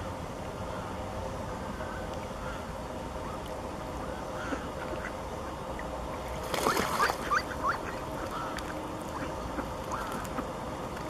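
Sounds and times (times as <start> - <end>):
ducks calling: 0.7 - 10.6.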